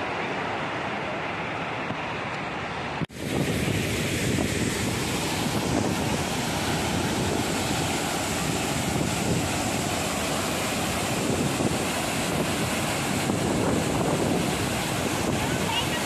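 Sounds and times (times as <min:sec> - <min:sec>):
waterfall rushing over boulders: 0:00.0 - 0:16.0.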